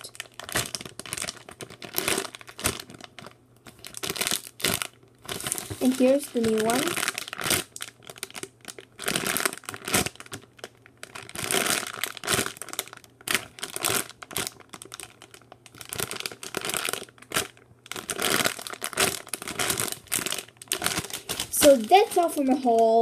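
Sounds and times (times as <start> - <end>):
foam toy crinkling and rustling: 0.0 - 23.0.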